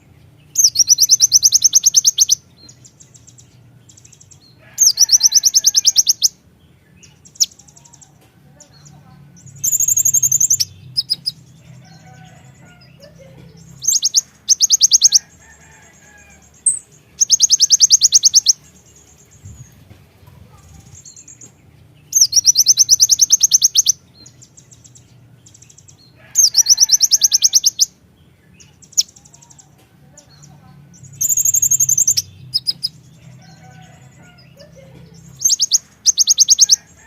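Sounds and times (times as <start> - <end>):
bird rattling song: 0.0 - 8.2, 9.4 - 28.0, 31.0 - 37.0
bird chirps: 0.0 - 37.0.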